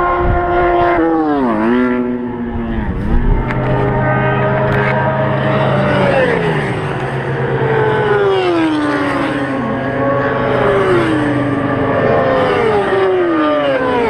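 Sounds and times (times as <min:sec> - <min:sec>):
racing motorcycle engines passing: 0:00.0 - 0:14.0.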